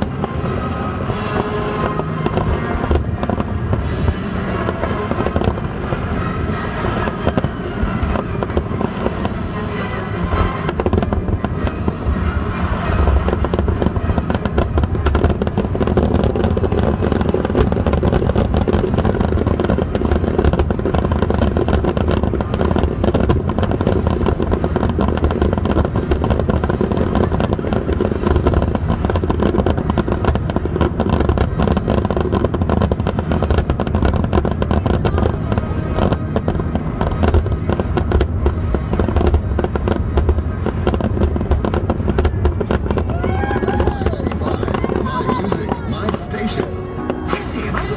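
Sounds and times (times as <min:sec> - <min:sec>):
deep rumble: 0:00.0 - 0:47.9
fireworks bangs and crackles: 0:00.0 - 0:47.9.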